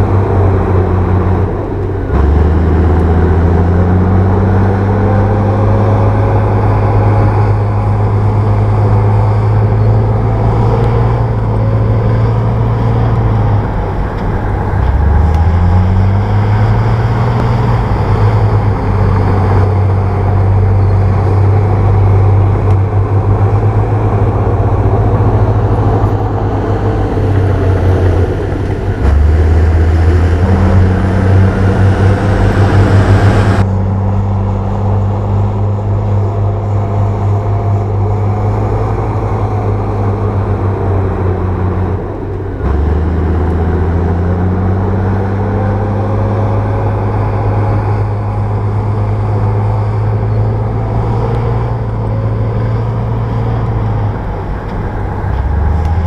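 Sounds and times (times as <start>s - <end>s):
bulldozer diesel engine: 0.0s - 56.0s
engine clatter: 0.0s - 56.0s.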